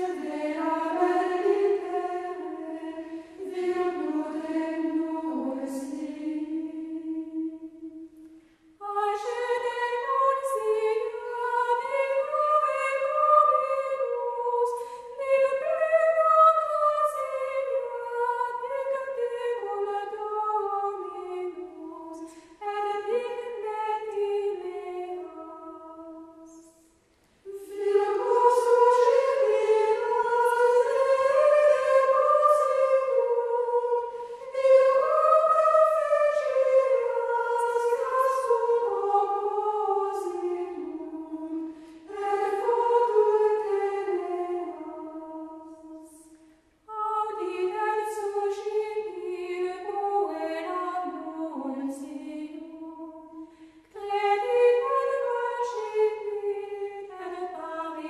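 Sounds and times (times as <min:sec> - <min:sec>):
choir singing: 0:00.0 - 0:08.2, 0:08.8 - 0:26.8, 0:27.4 - 0:58.0.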